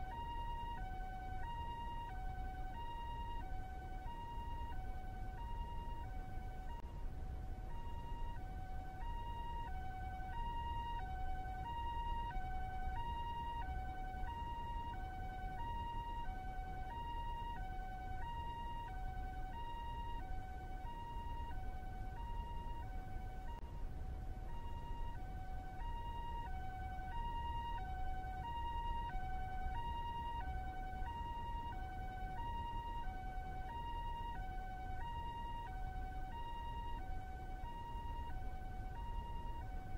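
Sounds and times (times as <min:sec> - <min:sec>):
ambulance two-tone siren: 0:00.0 - 0:39.9.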